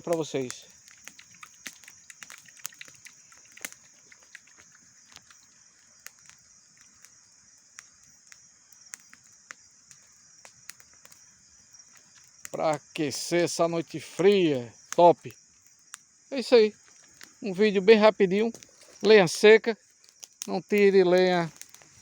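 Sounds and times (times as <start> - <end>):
campfire crackling and popping: 0.0 - 22.0
night insects chirring: 0.0 - 22.0.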